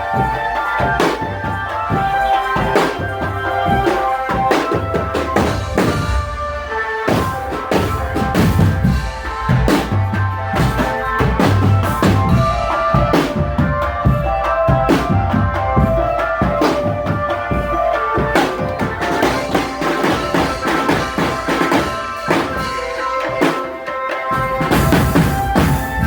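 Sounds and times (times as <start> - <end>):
bass and snare drums beating: 0.0 - 26.0
melody of held notes: 0.0 - 26.0.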